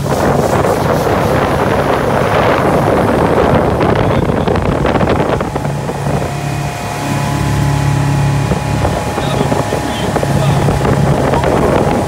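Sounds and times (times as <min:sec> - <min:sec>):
outboard motor running: 0:00.0 - 0:12.0
wind buffeting microphone: 0:00.0 - 0:12.0.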